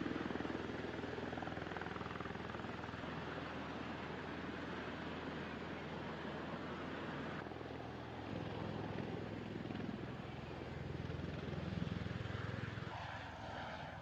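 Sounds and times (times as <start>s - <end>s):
aircraft rotors droning: 0.0s - 14.0s.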